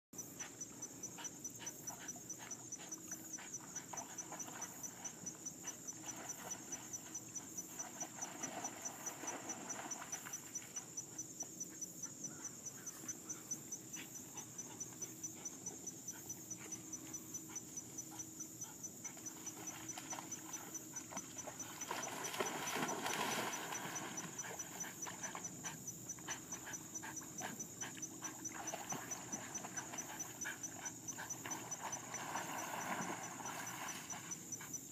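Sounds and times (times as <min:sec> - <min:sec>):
dog swimming through water: 0:00.2 - 0:34.9
insects chirping: 0:00.2 - 0:34.9.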